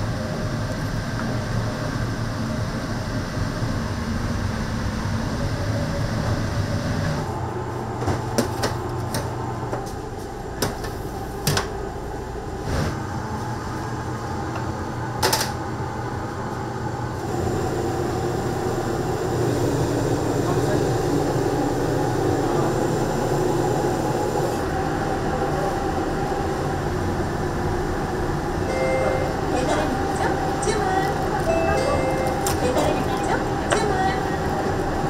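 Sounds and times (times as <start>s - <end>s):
mechanical hum and rumble: 0.0s - 35.0s.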